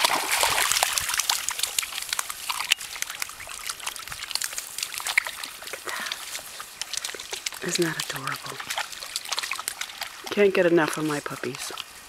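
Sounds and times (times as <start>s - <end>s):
puppies splashing in water: 0.0s - 12.0s.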